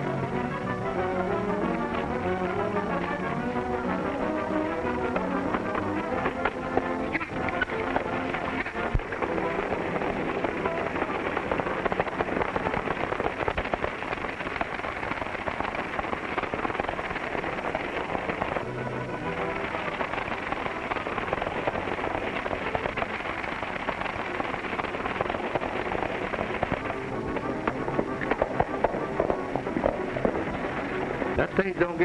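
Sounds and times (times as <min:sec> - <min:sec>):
film music: 0:00.0 - 0:32.0
hoofbeats on dirt road: 0:00.0 - 0:32.0.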